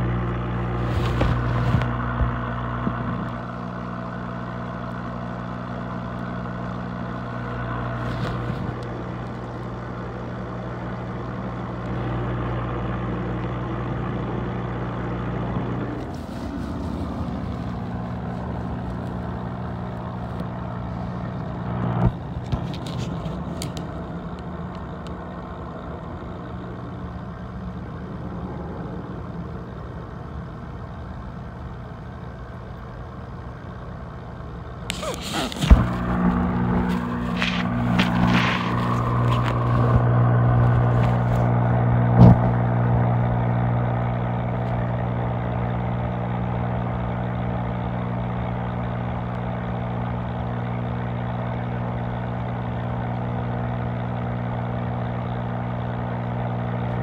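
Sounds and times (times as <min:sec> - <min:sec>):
low buzzing mechanical hum: 0:00.0 - 0:57.0.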